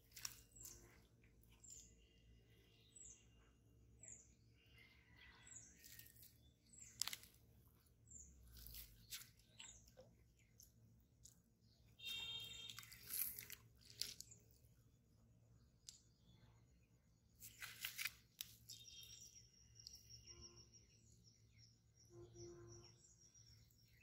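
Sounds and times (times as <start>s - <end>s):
small bird chirping: 0.0s - 24.0s.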